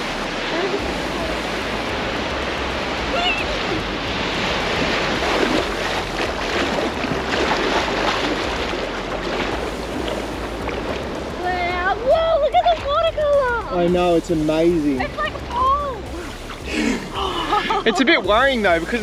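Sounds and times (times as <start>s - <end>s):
small waves washing: 0.0s - 19.0s
water splashing from swimming: 0.0s - 19.0s.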